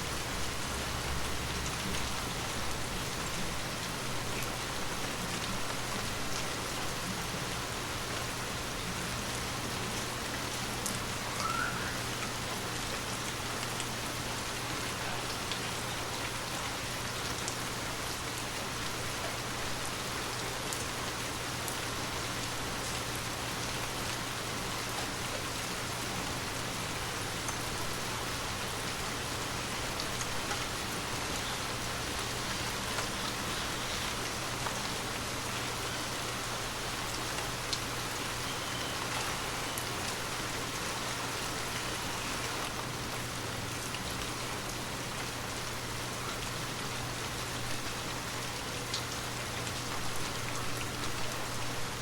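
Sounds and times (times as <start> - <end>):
gentle rain falling: 0.0 - 52.0.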